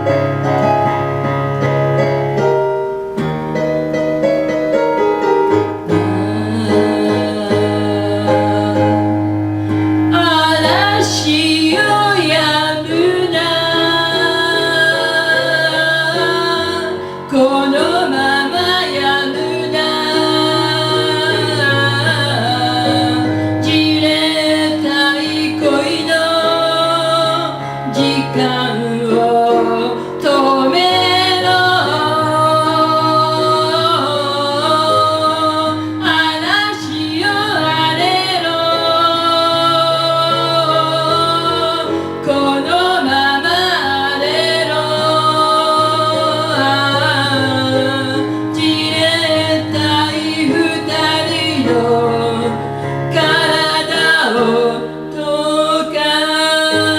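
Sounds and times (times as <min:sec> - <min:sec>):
instrumental accompaniment: 0:00.0 - 0:56.9
woman singing pop song: 0:05.9 - 0:09.2, 0:10.1 - 0:56.9.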